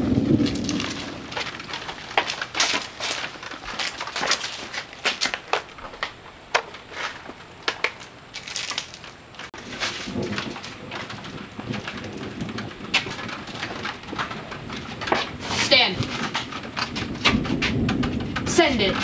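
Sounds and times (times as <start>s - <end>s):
footsteps crunching on debris: 0.0s - 19.0s.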